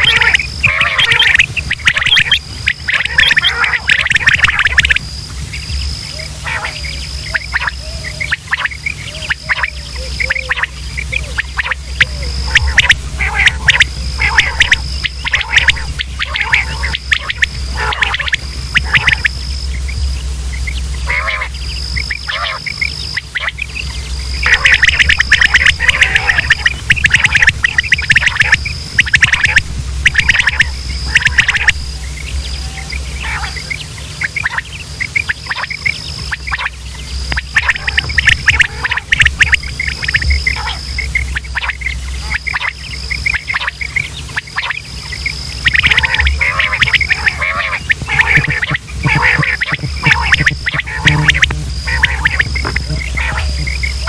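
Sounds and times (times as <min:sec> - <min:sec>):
quail calling: 0:00.0 - 0:54.0
steady low hum: 0:00.0 - 0:54.0.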